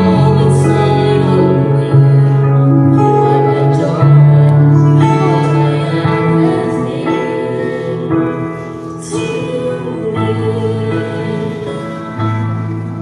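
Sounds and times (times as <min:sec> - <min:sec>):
man and woman singing duet: 0:00.0 - 0:12.5
instrumental accompaniment: 0:00.0 - 0:13.0.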